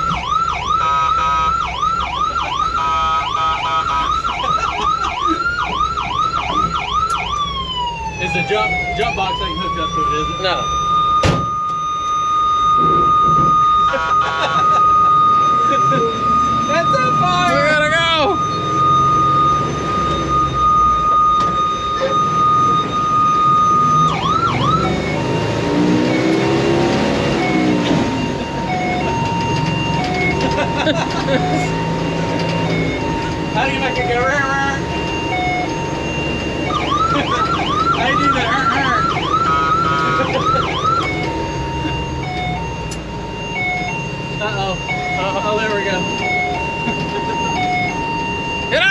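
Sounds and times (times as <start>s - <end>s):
electronic siren: 0.0s - 48.9s
fire truck engine running: 0.0s - 48.9s.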